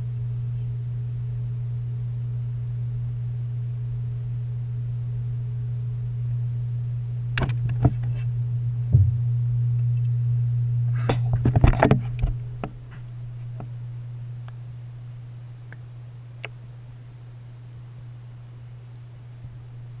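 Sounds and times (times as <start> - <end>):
underwater filter pump hum: 0.0 - 20.0.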